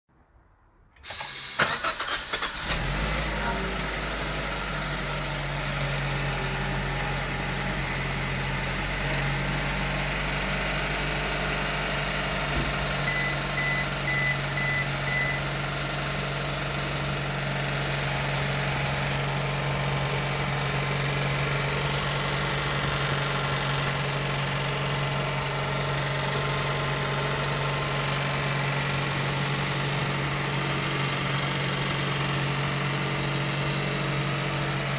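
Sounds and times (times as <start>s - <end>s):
car engine starting and idling: 1.0s - 34.9s.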